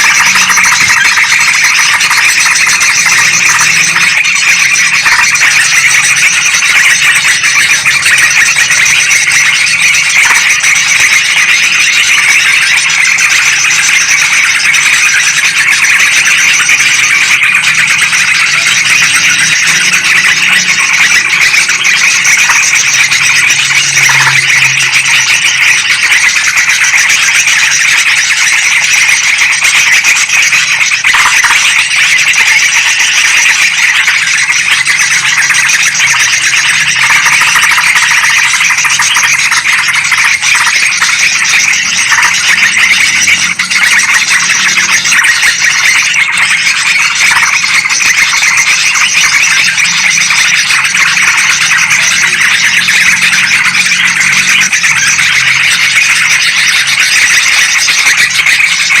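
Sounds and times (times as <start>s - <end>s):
bulbuls chattering: 0.0s - 59.0s.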